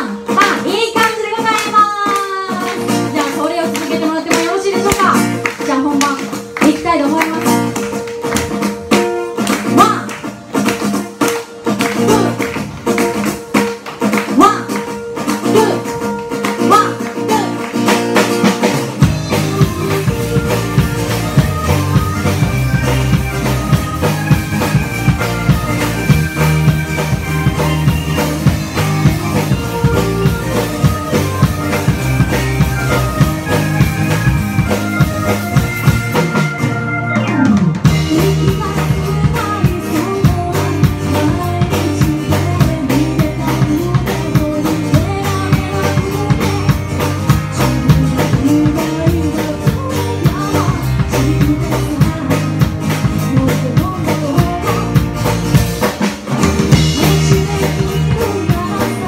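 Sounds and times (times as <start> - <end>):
woman singing: 0.0 - 7.8, 9.4 - 10.3, 11.8 - 12.6, 14.1 - 17.8, 19.0 - 35.7, 37.8 - 55.5, 56.7 - 59.0
live pop band playing: 0.0 - 59.0.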